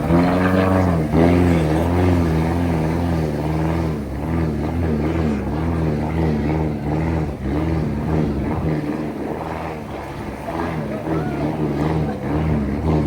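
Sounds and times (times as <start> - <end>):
vehicle engine wavering pitch: 0.0 - 13.0.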